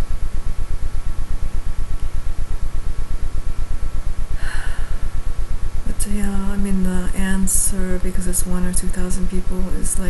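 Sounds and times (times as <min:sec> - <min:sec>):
faint steady whine: 0:00.0 - 0:10.0
low pulsing hum: 0:00.0 - 0:10.0.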